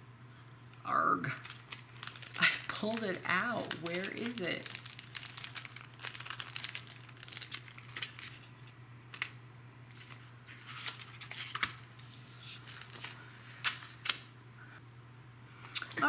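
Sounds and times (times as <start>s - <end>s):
plastic packaging crinkling: 0.6s - 14.3s.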